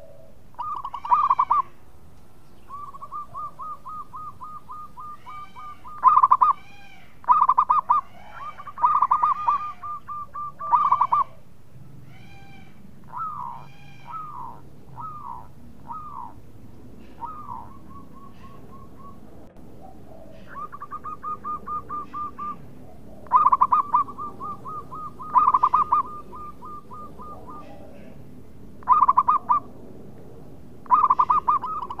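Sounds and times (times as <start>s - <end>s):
dove cooing: 0.0s - 1.8s, 2.6s - 11.5s, 12.1s - 29.7s, 30.8s - 32.0s.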